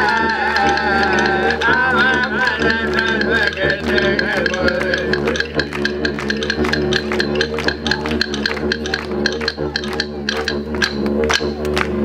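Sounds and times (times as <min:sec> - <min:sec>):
didgeridoo drone: 0:00.0 - 0:12.0
sharp clicking beat: 0:00.0 - 0:12.0.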